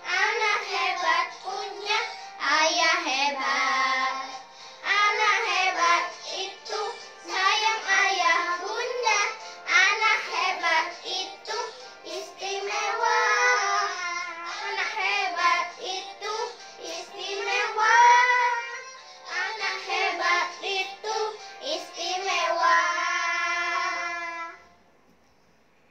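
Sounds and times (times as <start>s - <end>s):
children singing together: 0.0s - 24.6s.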